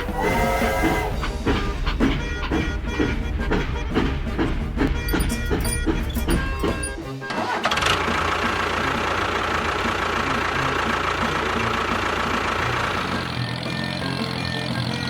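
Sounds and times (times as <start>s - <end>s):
motor running with rattling hum: 0.0s - 15.0s.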